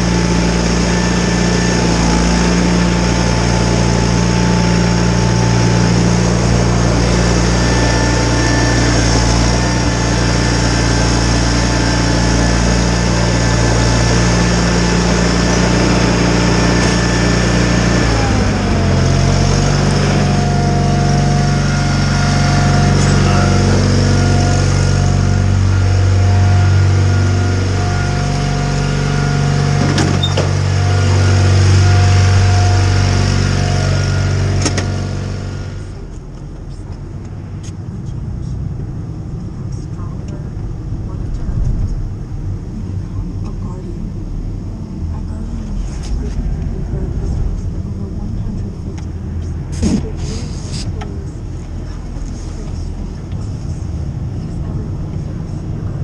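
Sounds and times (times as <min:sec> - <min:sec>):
garden tractor engine running: 0:00.0 - 0:56.0
thin whine: 0:00.0 - 0:56.0.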